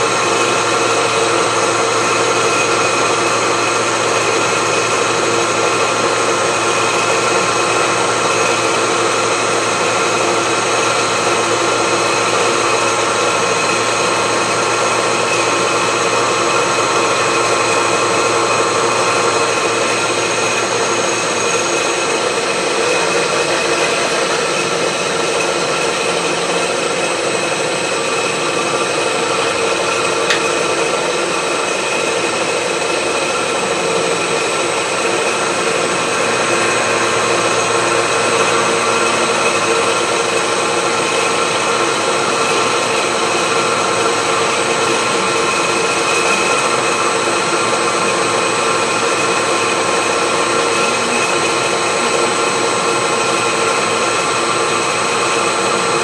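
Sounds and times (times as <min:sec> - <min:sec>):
cutter grinding through steel: 0:00.0 - 0:56.0
milling machine whine: 0:00.0 - 0:56.0.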